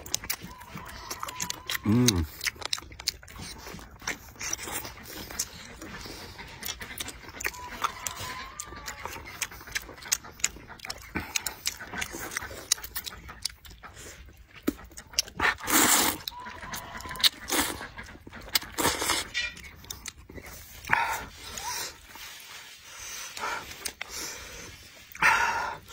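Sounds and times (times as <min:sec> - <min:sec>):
slurping noodles: 0:00.0 - 0:08.3, 0:09.0 - 0:25.9
wet chewing and lip smacks: 0:00.0 - 0:25.9.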